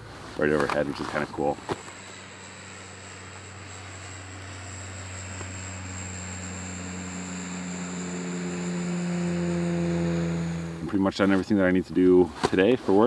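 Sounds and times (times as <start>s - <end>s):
turboprop airplane propeller drone: 0.0s - 12.2s.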